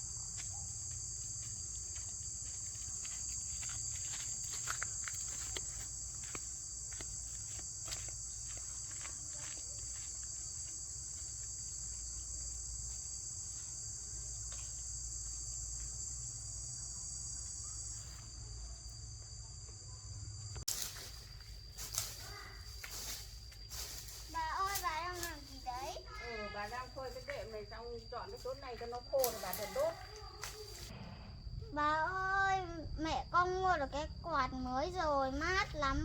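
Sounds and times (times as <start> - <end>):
high-pitched insect chorus: 0.0 - 36.0.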